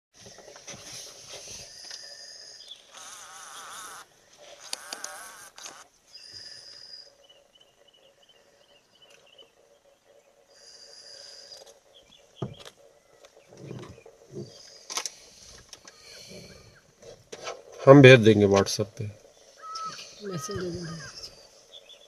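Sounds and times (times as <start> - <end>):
insects buzzing and chirping: 0.2 - 22.0
pulsing insect chirp: 0.2 - 22.0
wavering insect trill: 1.7 - 16.9, 17.9 - 22.0.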